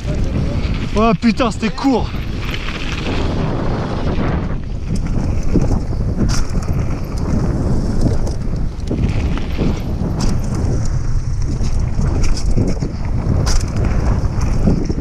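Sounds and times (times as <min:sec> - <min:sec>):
bike rattling: 0:00.0 - 0:15.0
bike tyres crunching on gravel: 0:00.0 - 0:15.0
wind noise on microphone: 0:00.0 - 0:15.0.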